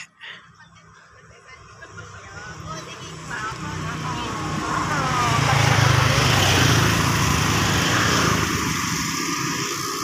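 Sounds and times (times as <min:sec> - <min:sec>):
small motorcycle passing by: 0:01.7 - 0:10.0.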